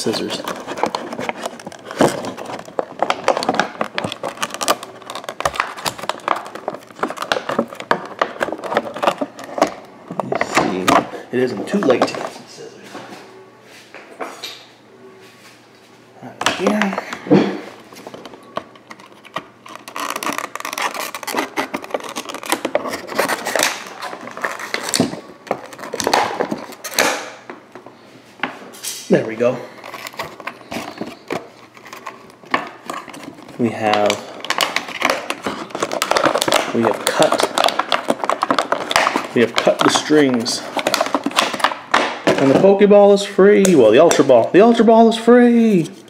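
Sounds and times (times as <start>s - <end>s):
hands handling plastic packaging: 0.0s - 12.4s, 16.4s - 28.0s, 29.2s - 46.0s.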